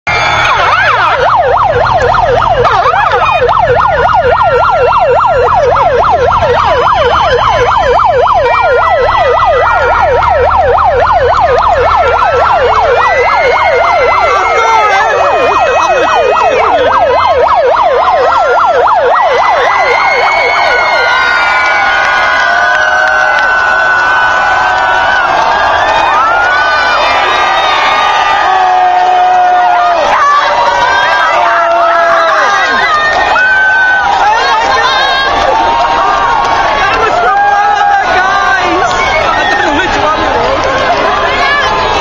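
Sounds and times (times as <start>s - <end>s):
crowd cheering: 0.0s - 42.0s
siren yelping: 0.1s - 42.0s
vehicle engine rumble: 0.4s - 31.4s, 32.6s - 42.0s.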